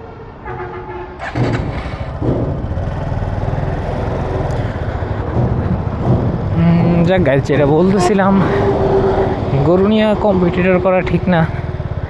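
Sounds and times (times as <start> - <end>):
motorcycle engine rumble: 0.3 - 12.0.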